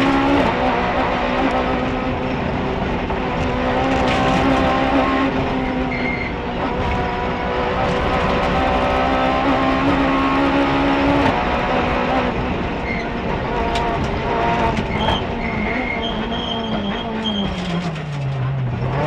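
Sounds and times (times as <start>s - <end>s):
rally car engine revving: 0.0s - 19.0s
tyre and road noise: 0.0s - 19.0s.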